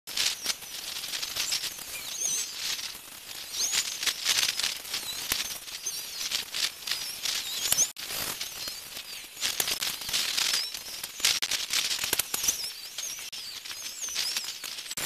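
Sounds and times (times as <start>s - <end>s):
crackling clicks: 0.1s - 15.0s
high chirps and whistles: 0.1s - 15.0s
steady hiss: 0.1s - 15.0s.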